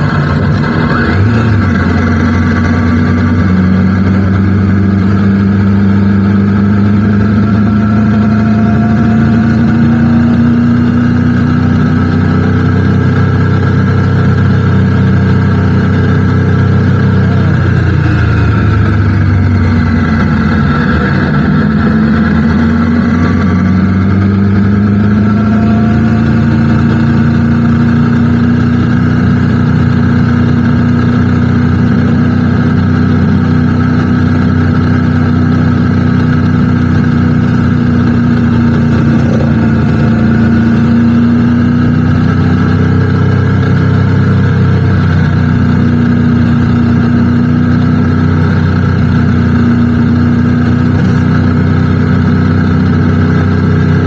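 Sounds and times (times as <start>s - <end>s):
motorcycle engine climbing in pitch: 0.0s - 54.0s.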